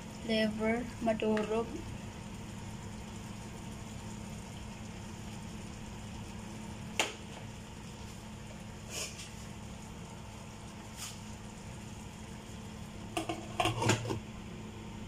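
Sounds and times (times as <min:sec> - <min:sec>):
chicken simmering in a frying pan: 0:00.0 - 0:15.0.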